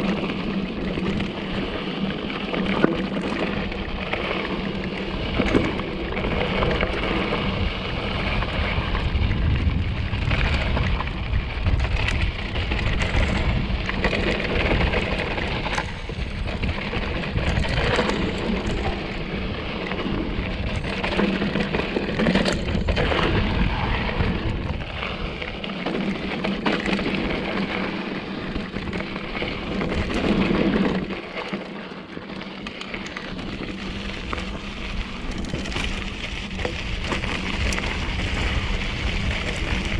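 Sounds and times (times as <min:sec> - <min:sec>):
wind buffeting microphone: 0:00.0 - 0:31.2, 0:33.0 - 0:39.9
bike tyre rumble and rattling: 0:00.0 - 0:39.9.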